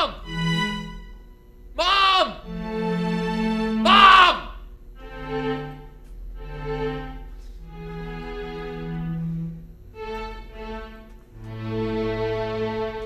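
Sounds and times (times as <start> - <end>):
slow score of held chords: 0.0 - 13.0.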